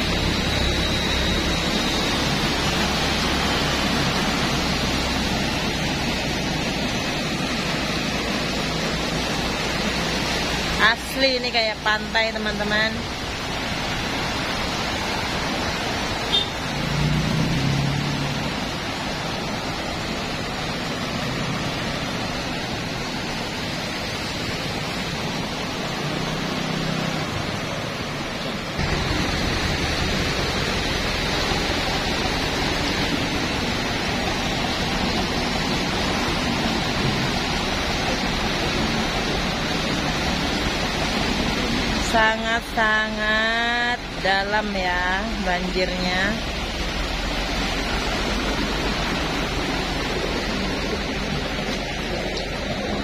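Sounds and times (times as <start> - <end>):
floodwater rushing: 0.0 - 53.0
vehicle engines humming: 0.0 - 53.0.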